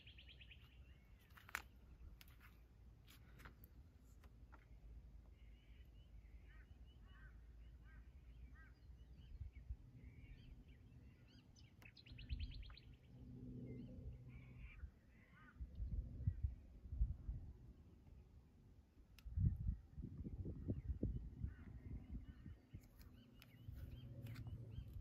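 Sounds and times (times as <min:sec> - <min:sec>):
birds chirping and trilling: 0:00.0 - 0:02.6, 0:04.6 - 0:16.7, 0:19.4 - 0:25.0.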